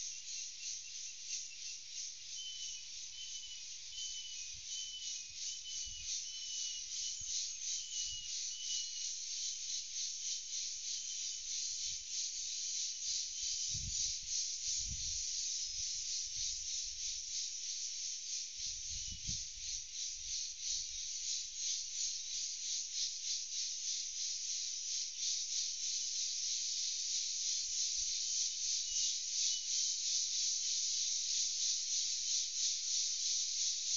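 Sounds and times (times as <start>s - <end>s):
insects buzzing: 0.0s - 33.9s.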